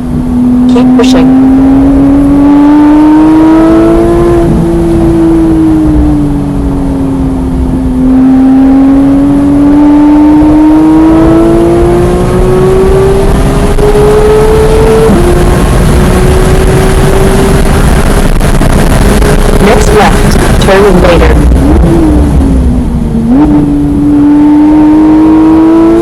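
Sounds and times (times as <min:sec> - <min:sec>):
race car engine revving: 0:00.0 - 0:07.3, 0:07.9 - 0:26.0.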